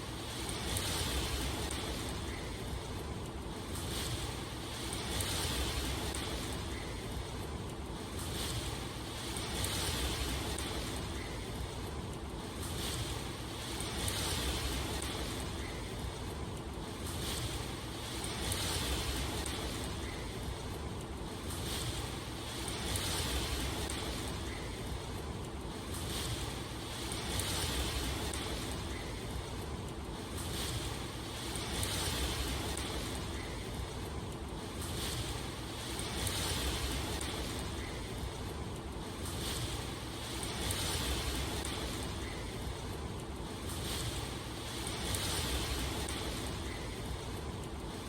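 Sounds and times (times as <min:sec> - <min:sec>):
steady rain hiss: 0:00.0 - 0:48.0.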